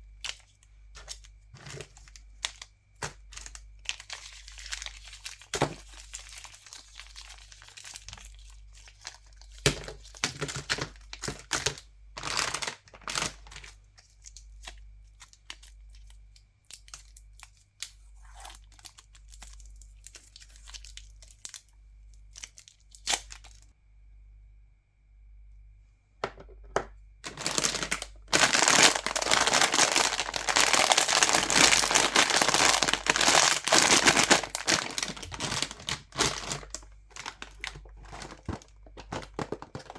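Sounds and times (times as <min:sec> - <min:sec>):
candy wrappers crinkling: 0:00.0 - 0:23.6, 0:27.2 - 0:39.9.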